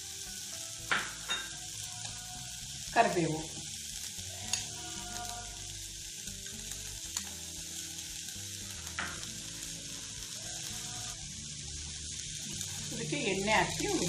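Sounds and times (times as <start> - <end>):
gas stove hissing: 0.0 - 14.0.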